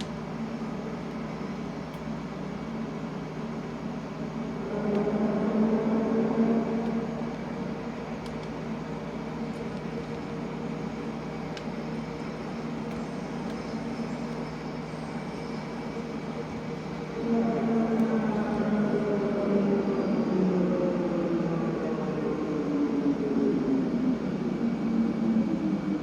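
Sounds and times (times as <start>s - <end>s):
underground train rumbling: 0.0s - 26.0s.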